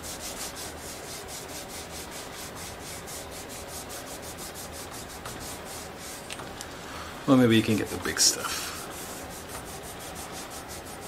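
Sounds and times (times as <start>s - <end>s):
rag rubbing on metal handlebar: 0.0s - 6.3s, 7.5s - 11.0s.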